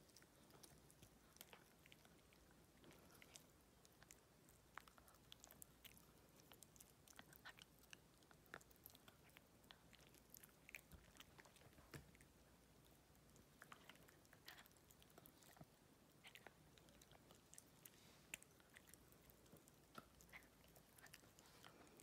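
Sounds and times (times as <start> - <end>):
puppy gnawing hard chew: 0.0 - 22.0.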